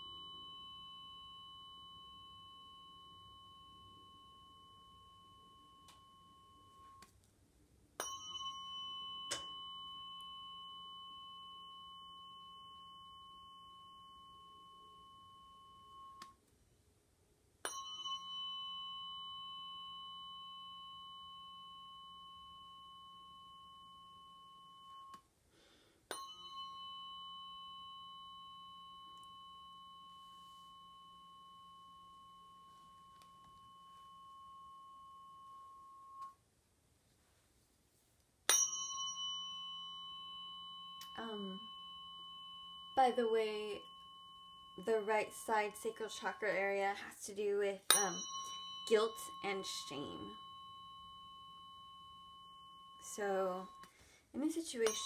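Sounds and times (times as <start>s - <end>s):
tuning fork ringing: 0.0s - 7.2s, 7.9s - 16.5s, 17.4s - 36.5s, 38.4s - 55.0s.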